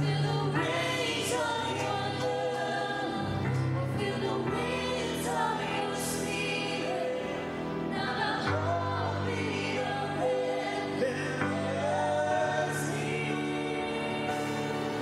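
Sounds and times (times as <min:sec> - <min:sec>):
choir singing worship song: 0:00.0 - 0:15.0.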